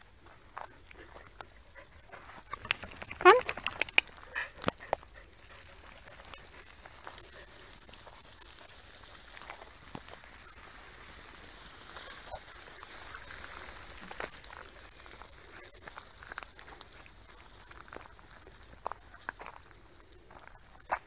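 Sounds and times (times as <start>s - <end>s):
footsteps on gravel: 0.0s - 21.0s.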